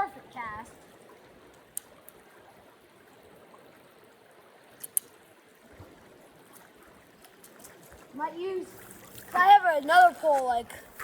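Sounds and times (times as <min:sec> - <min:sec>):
creek running: 0:00.0 - 0:11.0.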